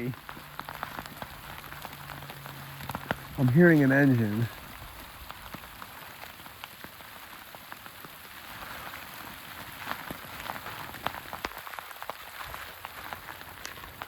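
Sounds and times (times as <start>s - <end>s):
rain falling: 0.0s - 14.0s
raindrops ticking: 0.0s - 14.0s.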